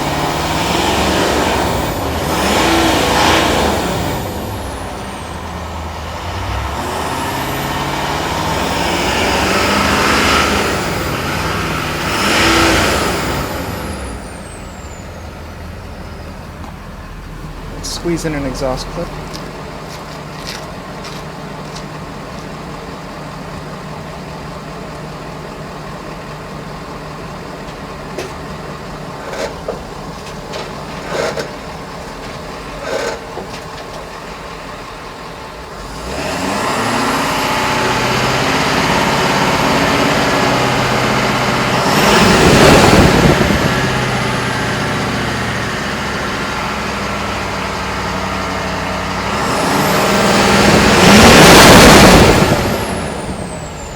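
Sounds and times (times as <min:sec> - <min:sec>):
engine knocks: 0:00.0 - 0:35.8, 0:36.4 - 0:53.9
diesel engine idling and revving: 0:00.0 - 0:53.9.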